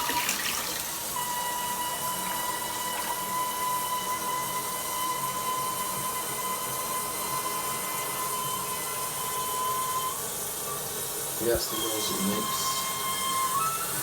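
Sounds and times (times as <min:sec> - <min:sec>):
fill valve whistling: 0:00.0 - 0:14.0
toilet tank refilling: 0:00.0 - 0:14.0.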